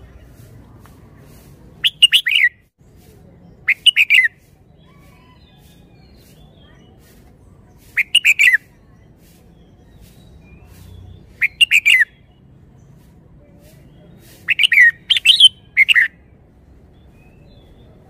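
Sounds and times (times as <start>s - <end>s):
soft bird notes: 0.0s - 18.0s.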